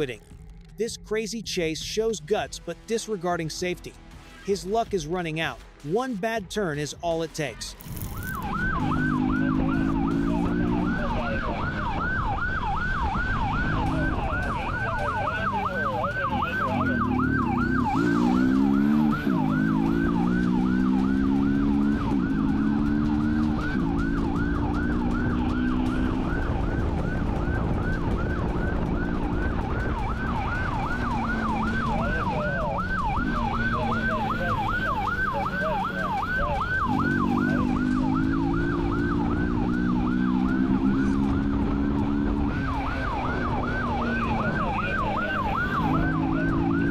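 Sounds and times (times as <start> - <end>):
police siren yelping: 8.0 - 46.9.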